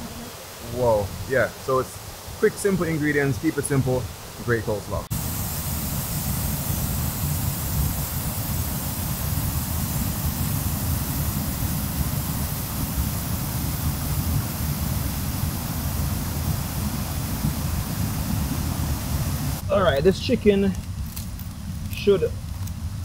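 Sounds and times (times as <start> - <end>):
waterfall rushing: 0.0 - 20.1.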